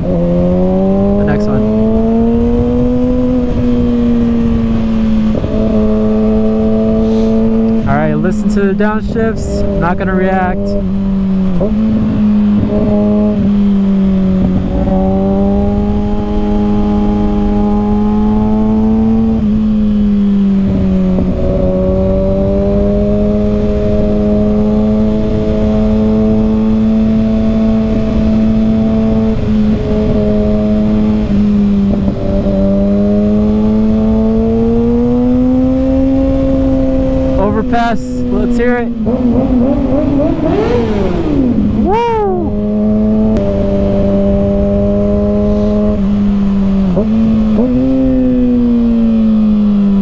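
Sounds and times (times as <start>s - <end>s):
motorcycle engine at high revs: 0.0s - 50.0s
wind buffeting microphone: 0.0s - 50.0s.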